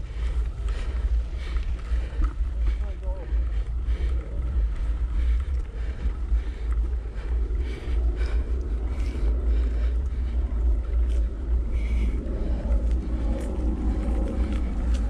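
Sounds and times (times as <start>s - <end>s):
tyres rolling on dirt trail: 0.0s - 15.0s
wind buffeting microphone: 0.0s - 15.0s.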